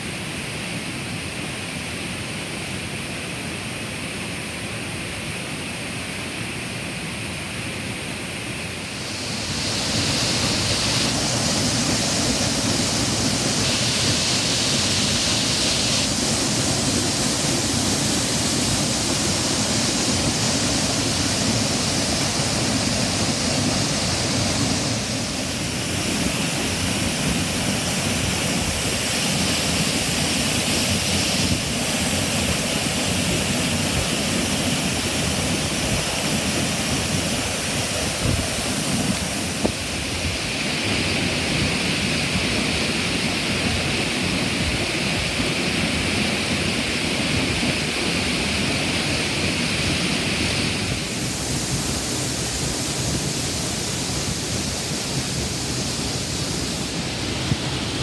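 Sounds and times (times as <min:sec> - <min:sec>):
waterfall rushing onto rocks: 0:00.0 - 0:58.0.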